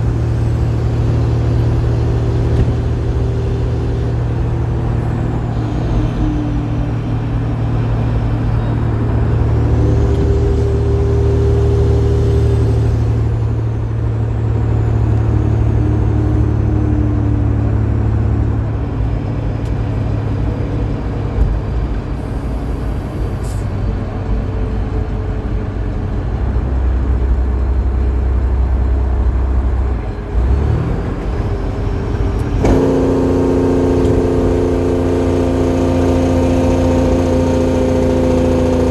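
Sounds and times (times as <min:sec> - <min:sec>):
diesel truck engine under load: 0:00.0 - 0:38.9.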